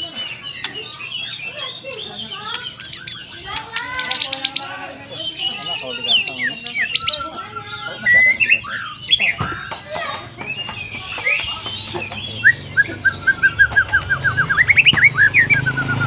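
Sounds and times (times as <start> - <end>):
songbird singing whistled phrases: 0.0 - 16.0.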